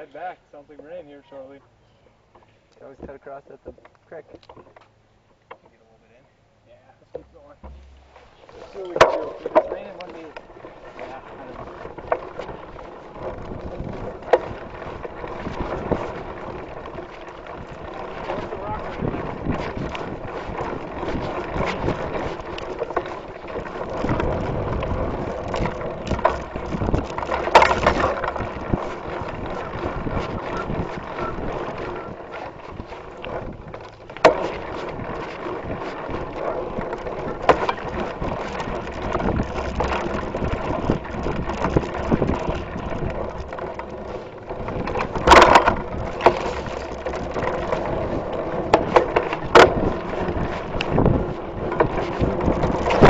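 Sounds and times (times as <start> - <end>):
bike tyres and frame rattling: 7.0 - 53.0
bike clacking over bumps: 7.1 - 53.0.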